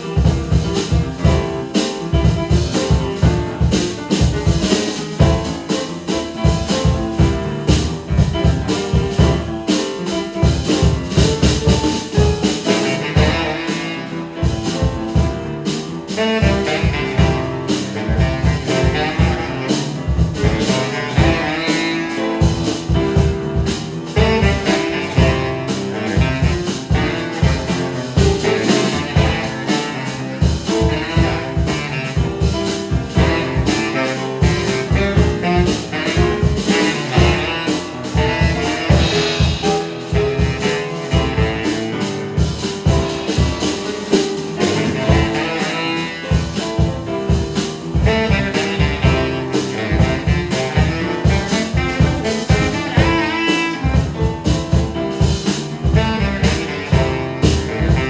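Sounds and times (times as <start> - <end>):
drum kit: 0.0 - 58.0
piano: 0.0 - 58.0
baritone saxophone: 0.2 - 58.0.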